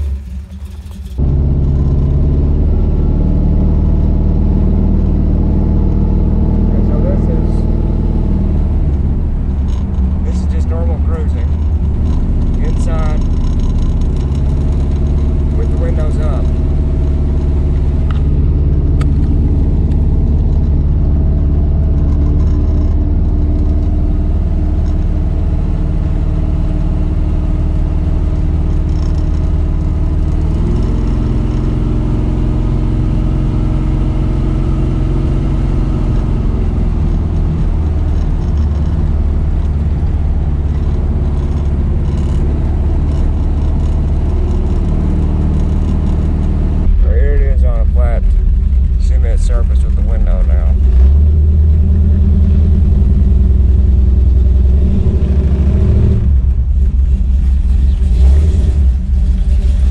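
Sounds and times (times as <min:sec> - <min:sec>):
loud v-eight engine exhaust: 0:00.0 - 0:59.9.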